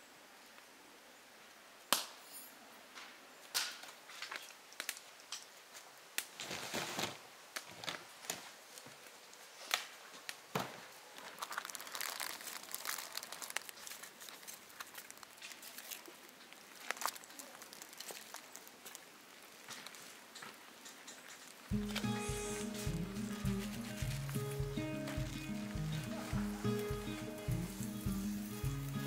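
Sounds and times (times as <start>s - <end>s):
wood fire crackling and popping: 3.5s - 29.0s.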